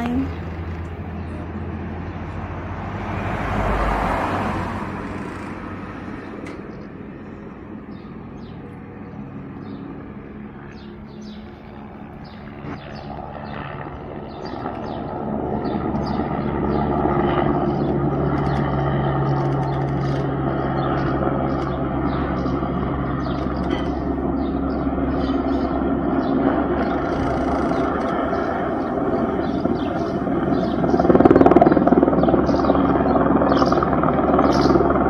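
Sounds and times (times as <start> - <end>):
small birds chirping: 0.0 - 2.6, 4.9 - 35.0
helicopter engine and rotor drone: 0.0 - 3.2, 4.8 - 35.0.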